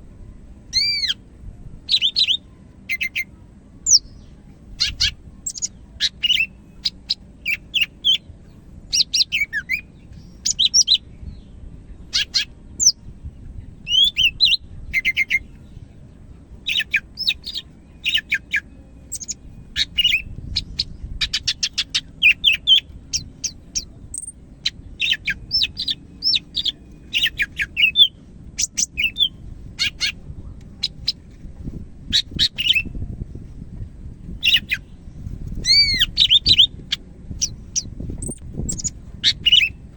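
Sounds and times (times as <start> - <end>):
faint low rumble: 0.0 - 39.9
bird singing chirps and trills: 0.2 - 31.2, 32.0 - 33.2, 34.2 - 39.9.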